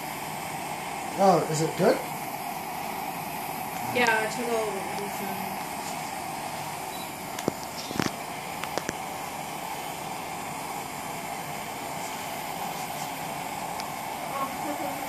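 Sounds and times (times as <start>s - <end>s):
propane torch hissing: 0.0s - 15.0s.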